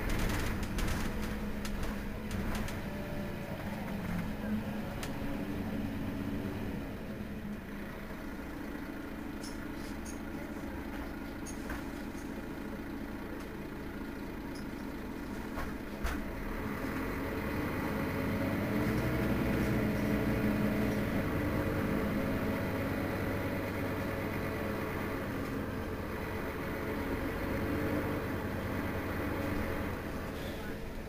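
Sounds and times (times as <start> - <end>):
bus engine idling: 0.0 - 31.0.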